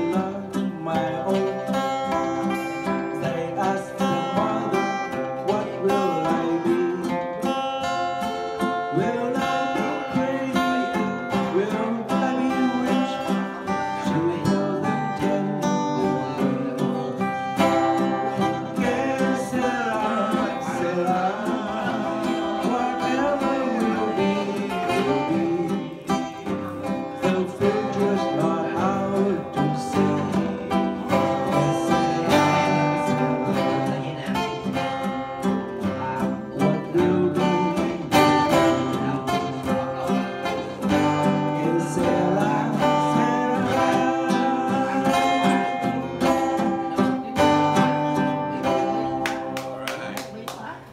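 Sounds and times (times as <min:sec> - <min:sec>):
man singing into a microphone: 0:00.0 - 0:49.6
strummed acoustic guitar: 0:00.0 - 0:50.9.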